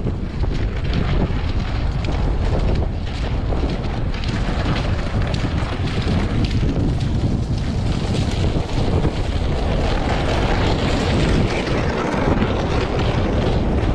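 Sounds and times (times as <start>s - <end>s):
sleds scraping on ice: 0.0s - 13.9s
wind rumbling on microphone: 0.0s - 13.9s.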